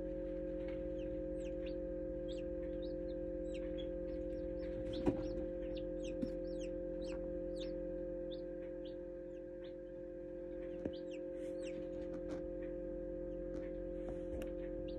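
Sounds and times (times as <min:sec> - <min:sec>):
incubator hum: 0:00.0 - 0:14.9
chicks peeping: 0:00.4 - 0:14.9.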